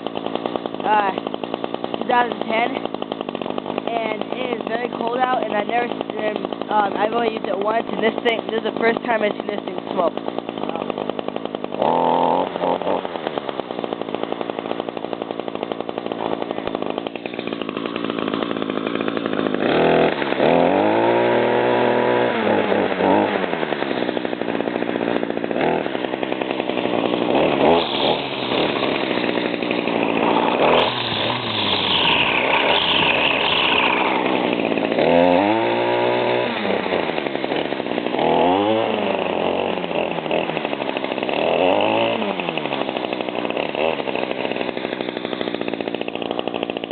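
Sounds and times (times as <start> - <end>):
string trimmer engine revving: 0.0 - 46.9.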